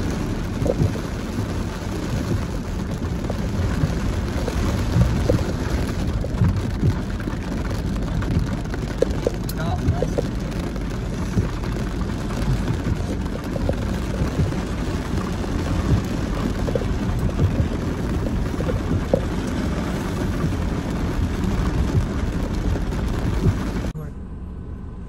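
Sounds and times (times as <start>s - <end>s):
rain pattering on windshield: 0.0s - 24.0s
vehicle rumble on wet trail: 0.0s - 25.0s.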